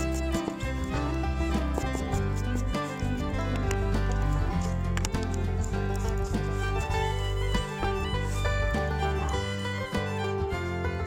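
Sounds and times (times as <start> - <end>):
clip-clop percussive beat: 0.0 - 11.0
instrumental music with held notes: 0.0 - 11.0.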